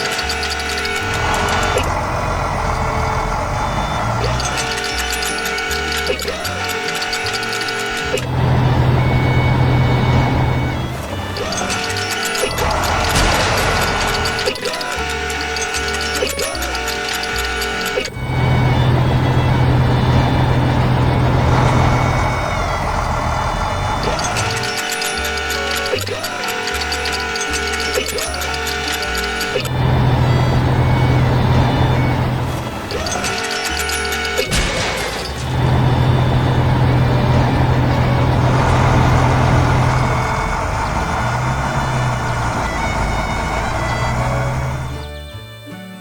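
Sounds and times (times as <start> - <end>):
heavy truck engine: 0.0 - 45.7
background music: 0.0 - 46.0.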